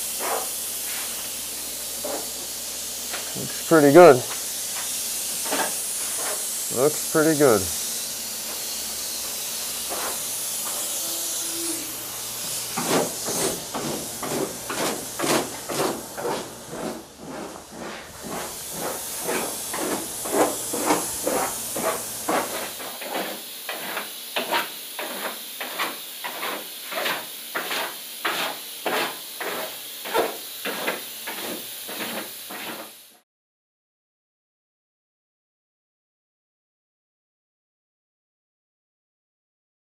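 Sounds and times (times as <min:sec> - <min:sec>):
spray foam gun hissing: 0:00.0 - 0:33.2.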